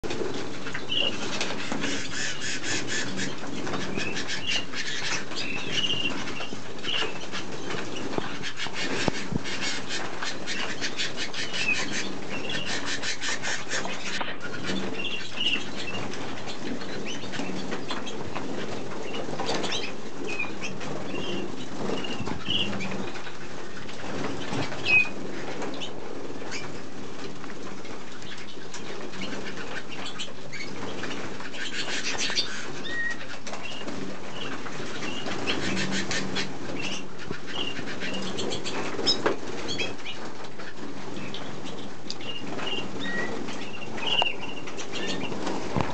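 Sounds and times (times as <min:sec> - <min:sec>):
canaries chirping: 0:00.0 - 0:45.9
wings fluttering: 0:00.0 - 0:45.9.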